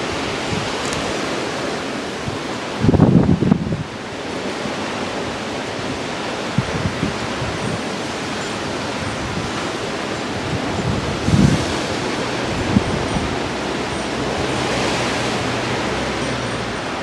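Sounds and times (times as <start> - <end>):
gusts buffeting microphone: 0.0 - 17.0
strong wind rushing: 0.0 - 17.0.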